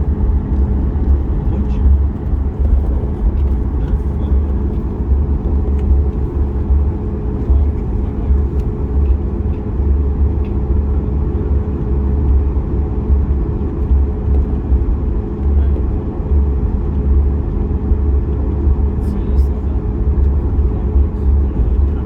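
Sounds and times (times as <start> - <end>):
aircraft rolling rumble: 0.0 - 22.0.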